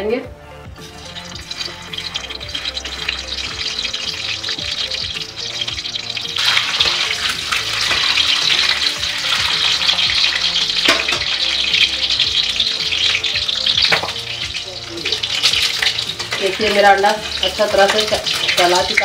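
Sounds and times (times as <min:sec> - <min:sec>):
eggs sizzling in hot oil: 0:00.6 - 0:19.0
metal spatula stirring: 0:00.8 - 0:19.0.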